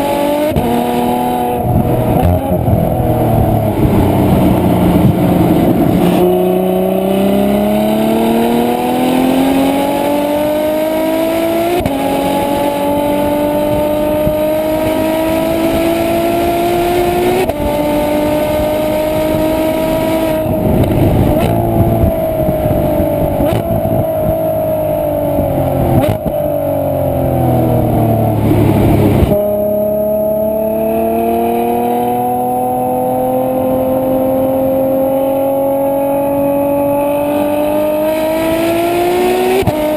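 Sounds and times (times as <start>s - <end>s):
sports car engine accelerating: 0.0s - 39.9s.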